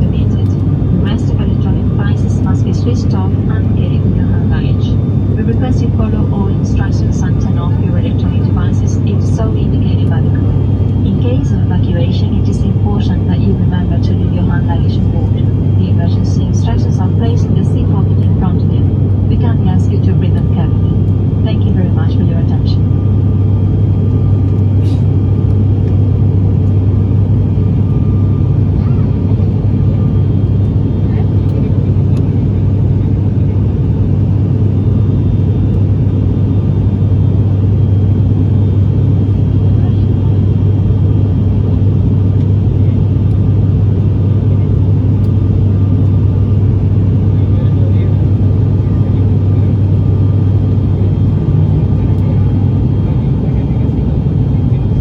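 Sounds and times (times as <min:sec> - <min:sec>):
turboprop engines droning in cabin: 0:00.0 - 0:55.0.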